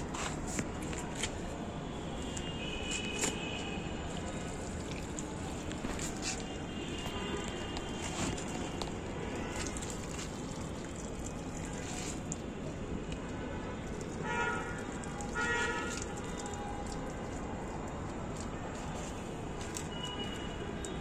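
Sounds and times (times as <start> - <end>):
water pouring onto soil: 0.0 - 21.0.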